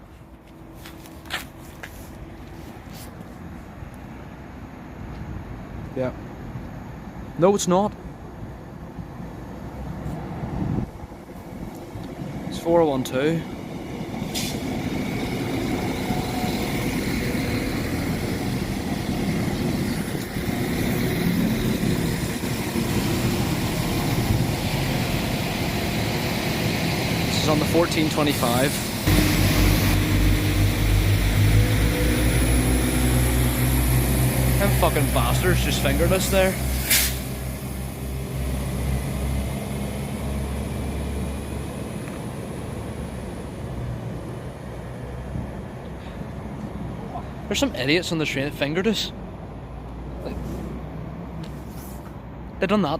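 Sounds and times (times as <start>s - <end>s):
diesel train engines humming: 0.0s - 52.5s.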